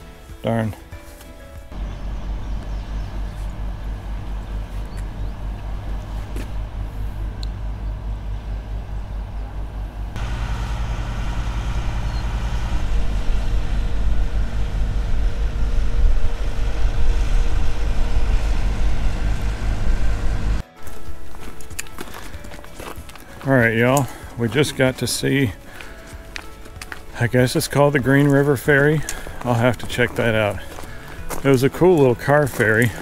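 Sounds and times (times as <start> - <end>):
vehicle engine running: 1.7 - 20.7, 22.4 - 33.0.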